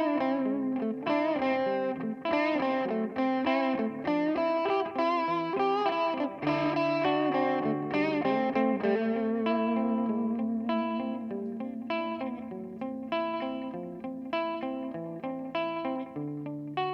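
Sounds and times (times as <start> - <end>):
electric guitar with delay: 0.0 - 16.9.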